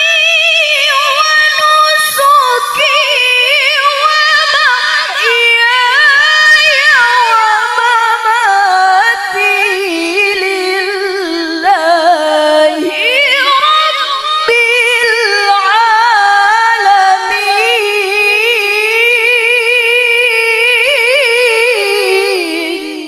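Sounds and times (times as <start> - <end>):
woman reciting melodically: 0.0 - 23.0.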